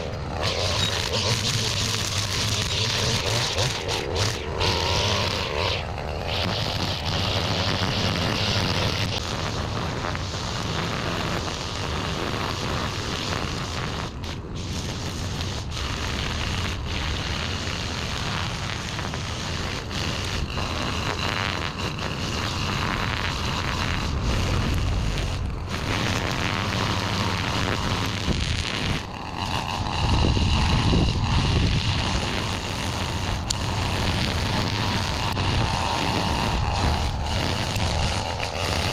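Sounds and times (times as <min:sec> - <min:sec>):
string trimmer cutting weeds: 0:00.0 - 0:38.9.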